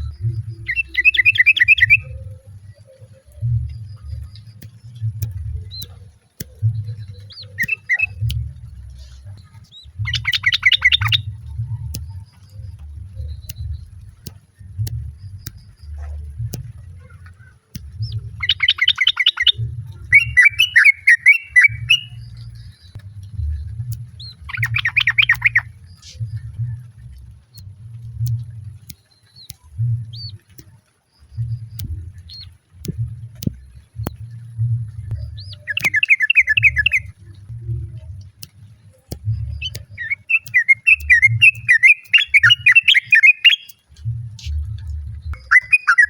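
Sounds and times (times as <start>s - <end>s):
bird bubbling chatter: 0.0s - 23.0s, 23.7s - 27.8s, 35.2s - 46.0s
low uneven rumble: 0.0s - 41.8s, 43.8s - 45.6s.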